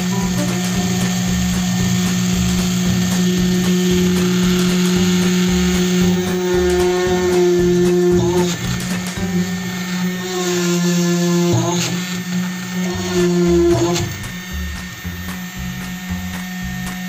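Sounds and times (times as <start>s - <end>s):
electric drill motor running: 0.0s - 17.0s
higher motor tone: 0.0s - 17.0s.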